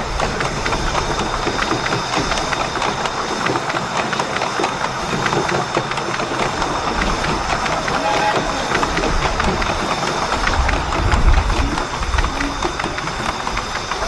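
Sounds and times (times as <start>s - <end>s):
miniature train wheels rattling on rail: 0.0s - 14.0s
sharp irregular clicks: 0.0s - 14.0s.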